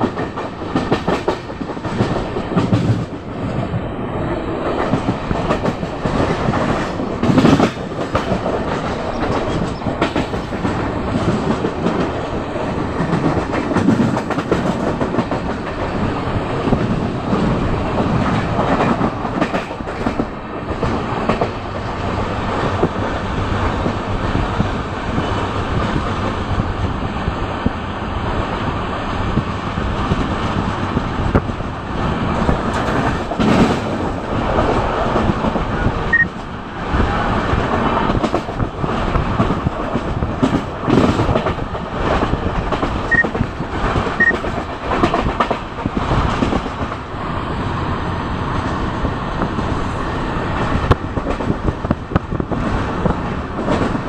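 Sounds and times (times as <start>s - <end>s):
track knocks and clatters: 0.0s - 3.6s, 4.6s - 26.4s, 32.3s - 36.5s, 37.5s - 47.1s, 48.5s - 54.0s
train wheels rumbling on rail: 0.0s - 54.0s.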